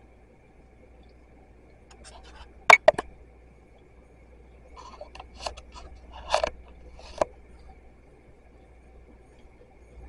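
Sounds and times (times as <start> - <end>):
soft rustling and clicks: 0.9 - 10.0.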